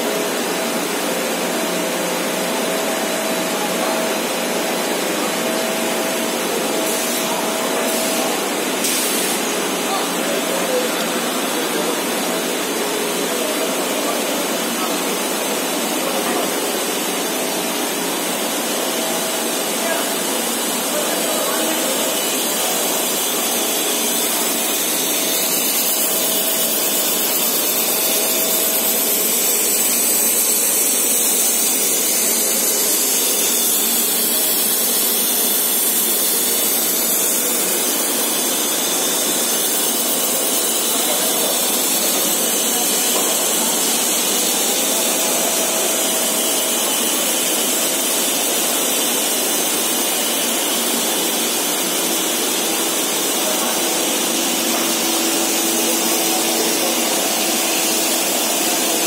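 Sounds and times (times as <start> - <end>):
machinery running with steady hiss: 0.0 - 59.0.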